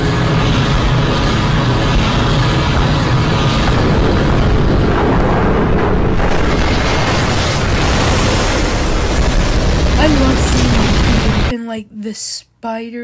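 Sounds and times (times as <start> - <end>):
rumbling explosions: 0.0 - 11.5.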